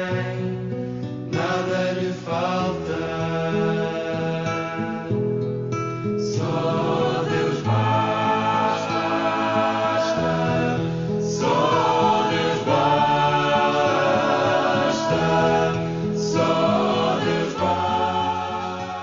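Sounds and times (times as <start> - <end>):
choir singing sacred music: 0.0 - 0.7, 1.3 - 5.1, 6.2 - 19.0.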